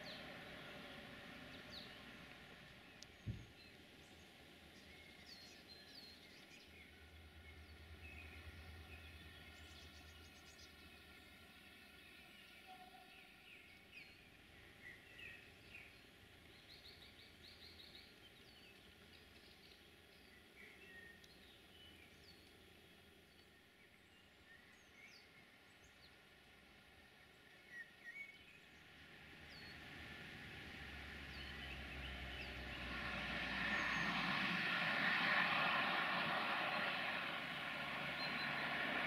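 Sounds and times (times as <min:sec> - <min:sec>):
faint birdsong: 0:00.0 - 0:39.0.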